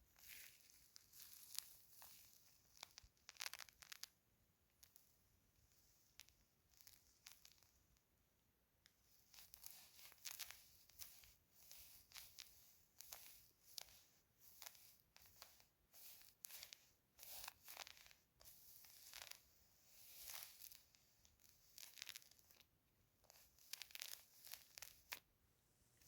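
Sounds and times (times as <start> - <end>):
soft crackling and rustling: 0.0 - 8.2, 8.8 - 26.0.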